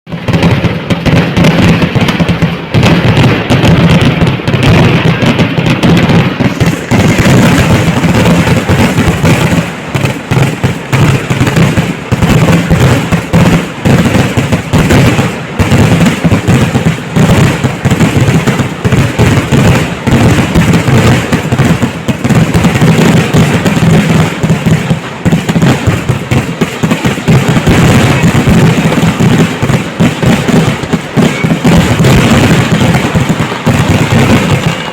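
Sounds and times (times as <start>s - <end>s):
firecracker explosions: 0.1s - 34.9s.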